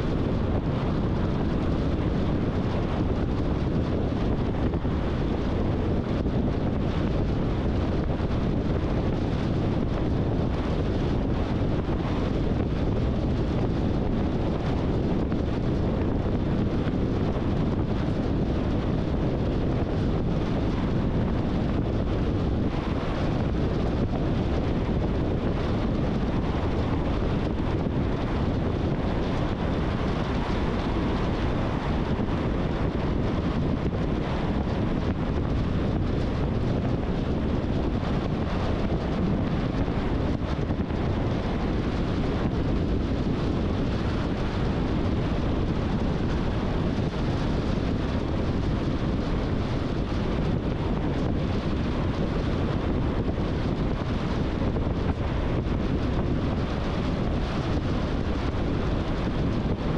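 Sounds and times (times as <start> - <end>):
car tyre and wind noise: 0.0 - 59.9.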